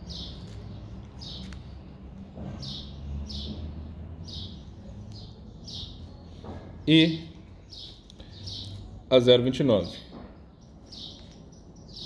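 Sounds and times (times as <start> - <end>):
small bird chirping: 0.0 - 9.1, 10.4 - 12.0.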